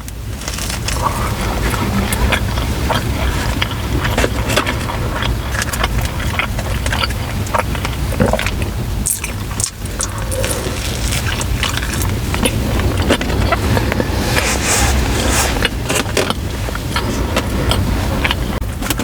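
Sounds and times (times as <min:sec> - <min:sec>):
car interior rumble: 0:00.0 - 0:19.0
chewing and crunching: 0:00.0 - 0:19.0.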